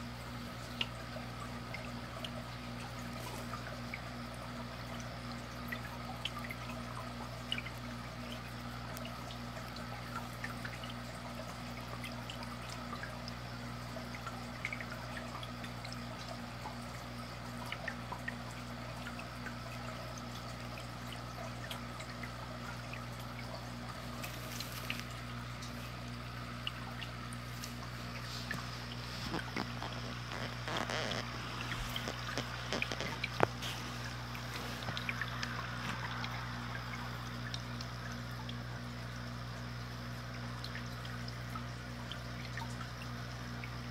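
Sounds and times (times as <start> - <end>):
aquarium air bubbles popping: 0.0 - 43.9
steady low hum: 0.0 - 43.9.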